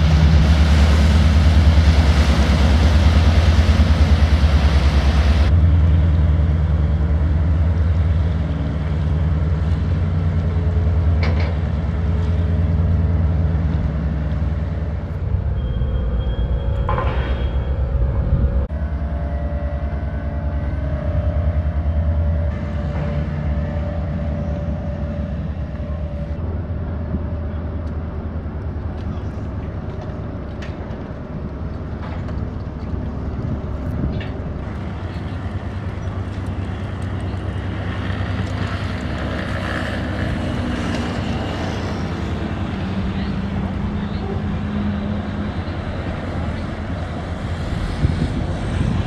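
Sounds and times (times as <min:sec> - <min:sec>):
low machinery rumble: 0:00.0 - 0:49.0.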